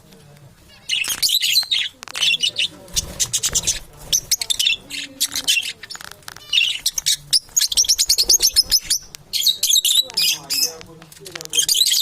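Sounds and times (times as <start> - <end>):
parrots chirping: 0.6 - 12.0.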